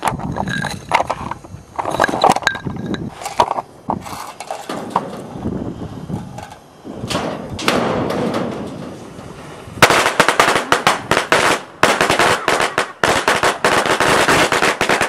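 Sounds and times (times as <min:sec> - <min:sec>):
firecrackers cracking: 0:00.0 - 0:15.0
fuse hissing: 0:00.3 - 0:13.6.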